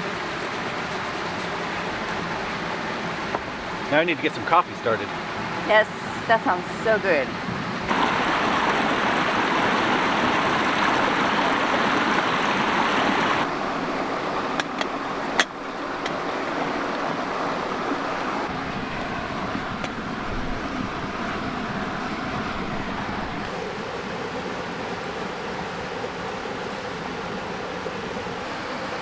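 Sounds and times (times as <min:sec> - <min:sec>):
mountain creek rushing: 0:00.0 - 0:29.0.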